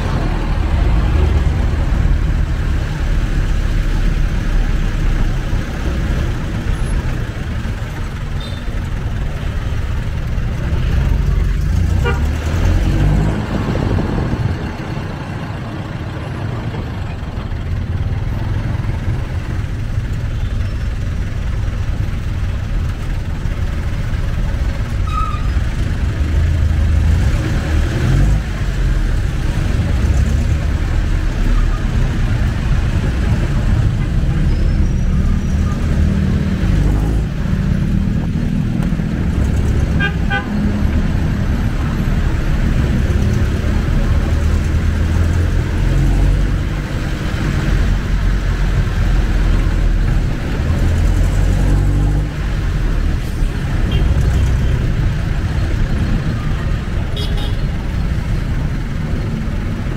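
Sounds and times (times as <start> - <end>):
diesel engine rumble: 0.0 - 59.9
road and traffic noise: 0.0 - 59.9.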